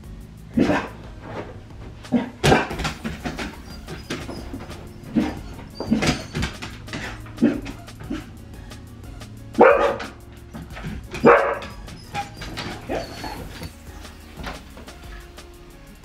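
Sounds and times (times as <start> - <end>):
background music: 0.0 - 16.0
dogs barking: 0.5 - 15.4.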